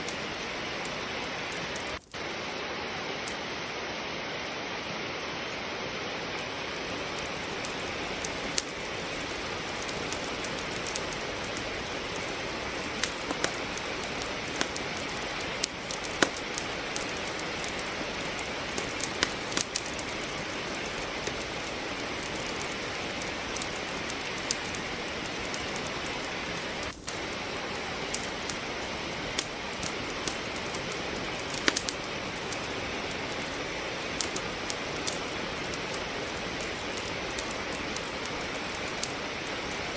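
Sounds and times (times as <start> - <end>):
logs crackling in fireplace: 0.0 - 39.9
rain hissing: 0.0 - 39.9.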